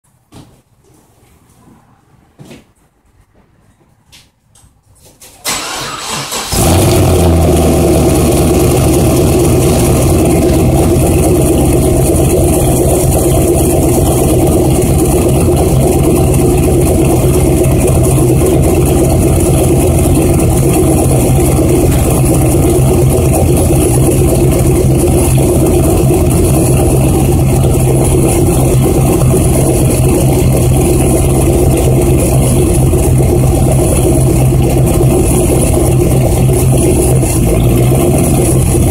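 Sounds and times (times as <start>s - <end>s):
car engine cranking: 5.4s - 38.9s
car engine idling loudly: 6.0s - 38.9s.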